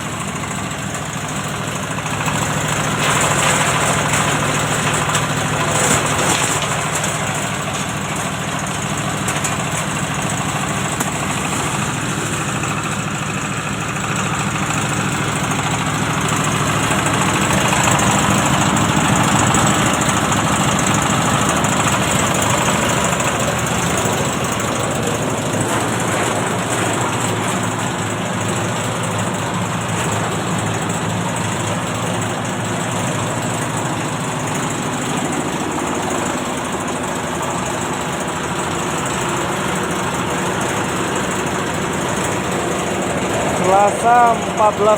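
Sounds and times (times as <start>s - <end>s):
threshing machine hum: 0.0s - 44.9s.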